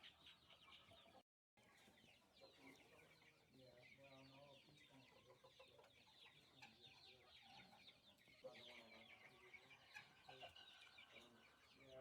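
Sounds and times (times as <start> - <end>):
chickens clucking: 1.8 - 12.0
chicks peeping: 1.8 - 12.0.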